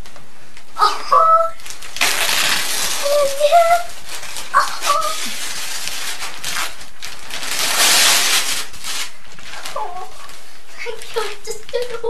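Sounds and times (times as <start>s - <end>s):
wrapping paper tearing and crumpling: 0.8s - 12.0s.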